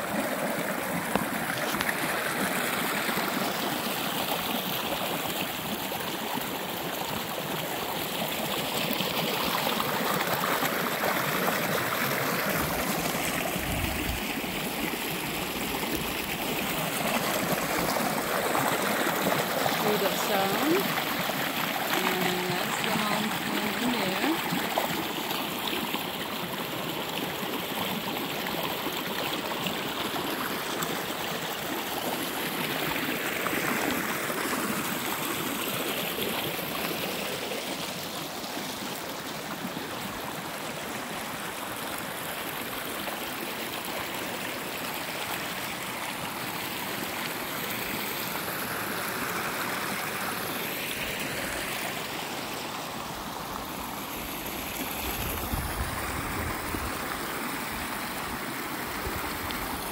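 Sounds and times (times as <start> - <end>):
creek babbling over rocks: 0.0 - 59.9.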